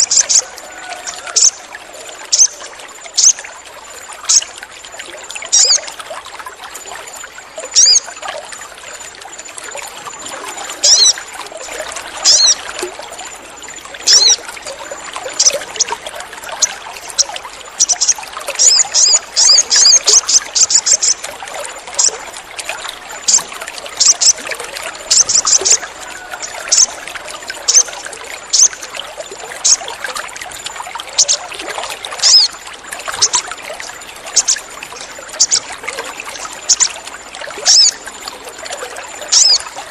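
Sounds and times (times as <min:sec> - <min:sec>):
trickling water-like noise: 0:00.0 - 0:39.9.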